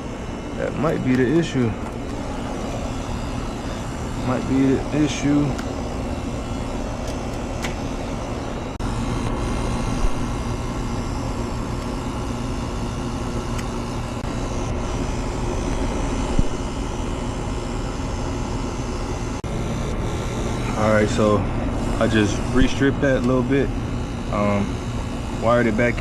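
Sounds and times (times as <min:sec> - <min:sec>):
mechanical drone: 0:00.0 - 0:26.0.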